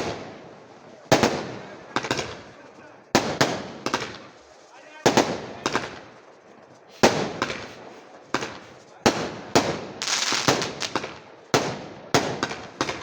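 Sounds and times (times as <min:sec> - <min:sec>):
firecrackers banging: 0:00.0 - 0:13.0.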